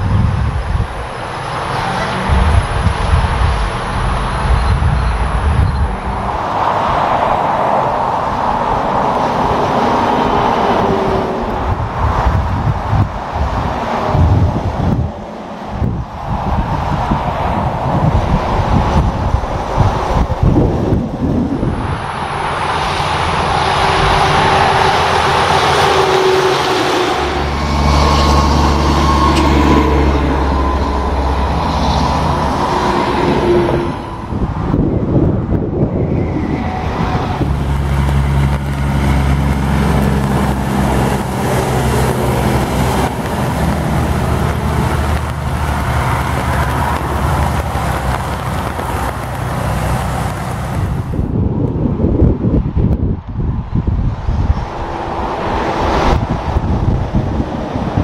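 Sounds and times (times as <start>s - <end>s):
truck diesel engines droning: 0.0s - 58.0s
tyre and traffic noise: 0.0s - 58.0s.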